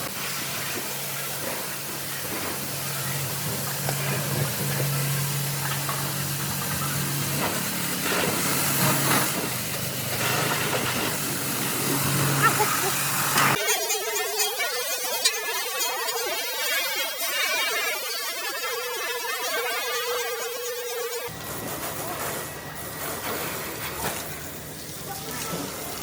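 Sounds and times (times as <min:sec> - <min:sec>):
hissing spray: 0:00.0 - 0:26.0
motor hum: 0:00.0 - 0:26.0.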